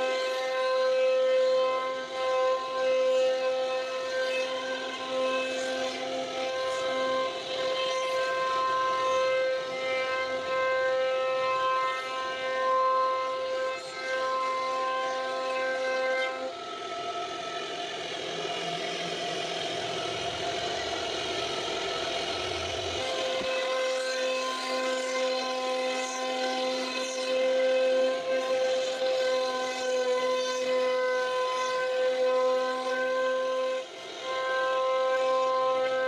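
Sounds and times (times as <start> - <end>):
router spindle whining: 0.0 - 36.0.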